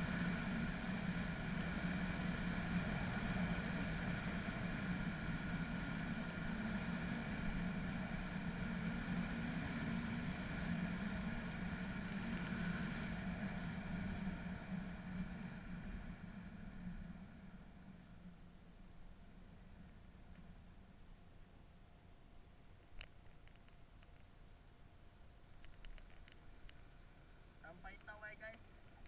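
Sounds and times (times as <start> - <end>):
constant hiss: 0.0 - 29.0
engine humming steadily: 0.0 - 29.0.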